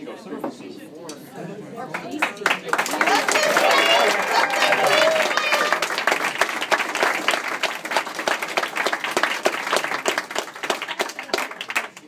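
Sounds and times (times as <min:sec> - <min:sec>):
voices in crowd: 0:00.0 - 0:12.0
audience applauding: 0:01.9 - 0:12.0.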